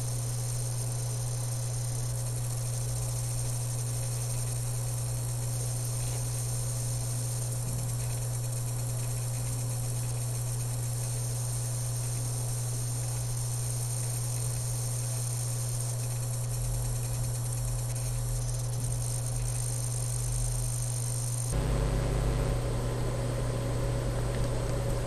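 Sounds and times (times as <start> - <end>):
laptop high-pitched whine: 0.0 - 25.0
low hum and hiss: 0.0 - 25.0.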